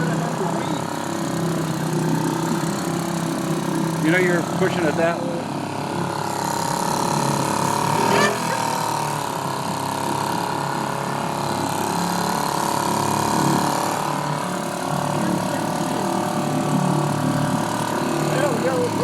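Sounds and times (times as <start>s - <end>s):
outboard engine running: 0.0s - 19.0s.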